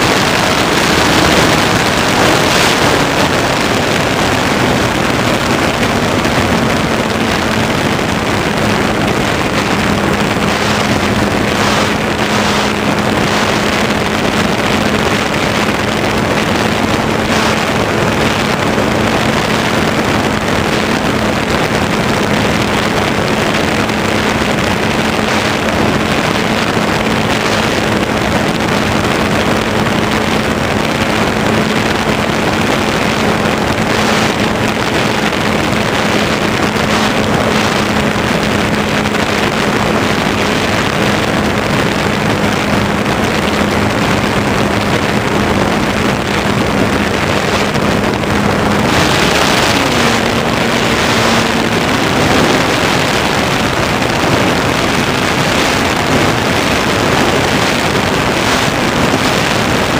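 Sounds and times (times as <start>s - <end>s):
electric motor and propeller hum: 0.0s - 59.9s
wind noise on microphone: 0.0s - 59.9s.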